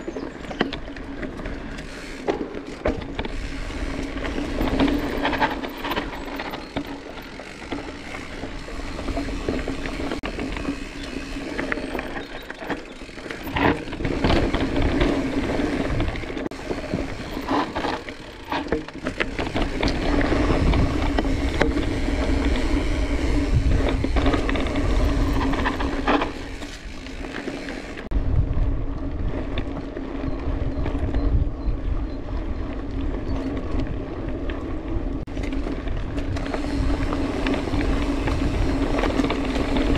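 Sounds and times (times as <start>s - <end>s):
bike chain and frame rattling: 0.0s - 28.2s, 29.1s - 39.9s
bike tyres on dirt trail: 0.0s - 39.9s.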